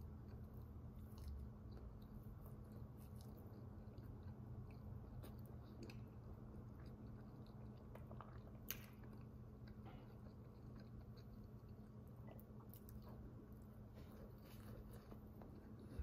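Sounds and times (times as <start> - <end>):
low steady hum: 0.0 - 16.0
person chewing wet smacking: 0.0 - 16.0.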